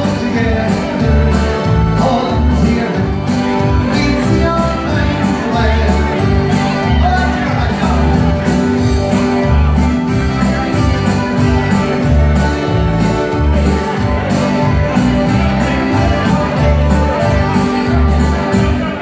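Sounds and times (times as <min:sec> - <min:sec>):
country dance music over speakers: 0:00.0 - 0:19.0.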